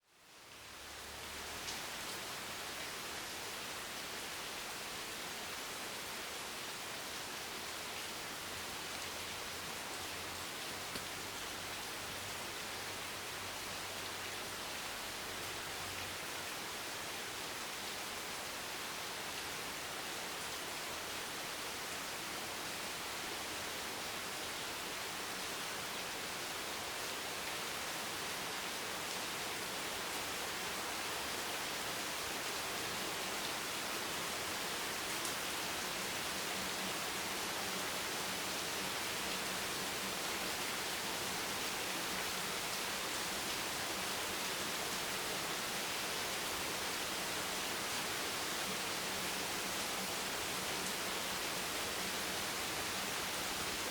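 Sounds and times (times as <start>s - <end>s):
heavy rain on a bench: 0.1s - 53.9s.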